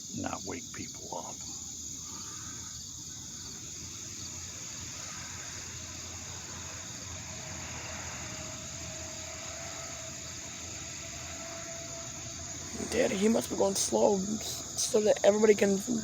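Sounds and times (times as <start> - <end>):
cricket chorus trilling: 0.0 - 16.0
faint steady tone: 0.0 - 16.0.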